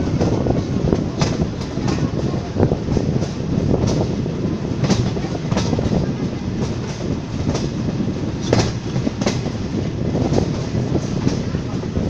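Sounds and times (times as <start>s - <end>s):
train wheel rumble: 0.0s - 12.0s
wheels clacking over rail joints: 0.0s - 12.0s.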